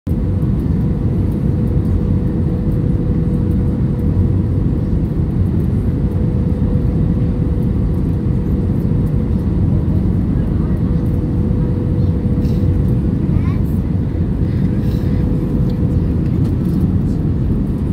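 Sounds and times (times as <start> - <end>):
airliner cabin engine rumble: 0.1 - 17.9.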